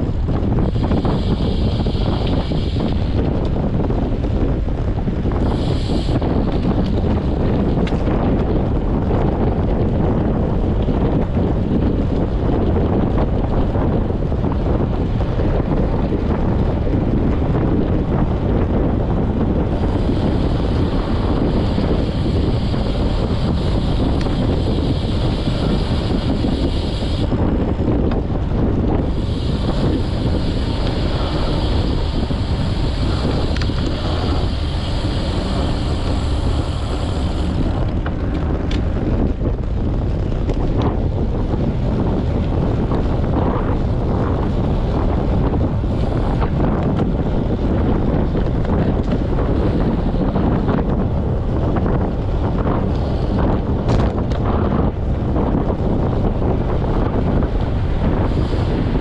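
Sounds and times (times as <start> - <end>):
tyre and road noise: 0.0 - 59.0
wind buffeting microphone: 0.0 - 59.0.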